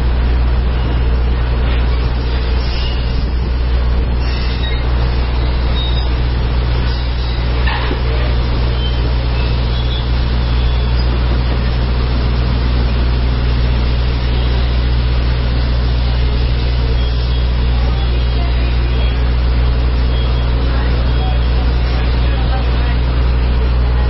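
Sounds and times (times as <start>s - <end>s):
steam train rumbling: 0.0s - 24.0s.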